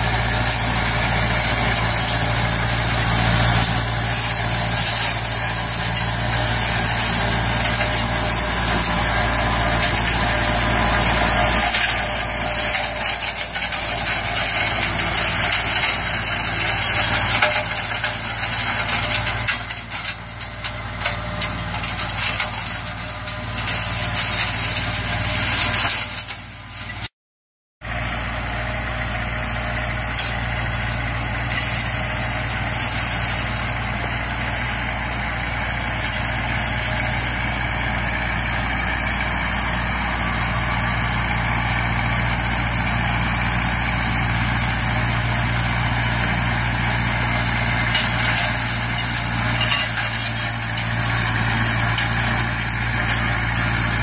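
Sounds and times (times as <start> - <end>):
flail mulcher shredding grass: 0.0 - 27.1, 27.8 - 54.0
tractor diesel engine running: 0.0 - 27.1, 27.8 - 54.0.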